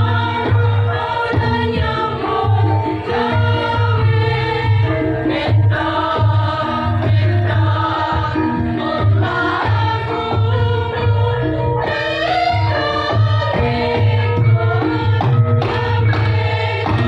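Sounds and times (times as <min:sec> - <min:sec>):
instrumental accompaniment with bass: 0:00.0 - 0:17.0
women's choir singing in harmony: 0:00.0 - 0:17.0.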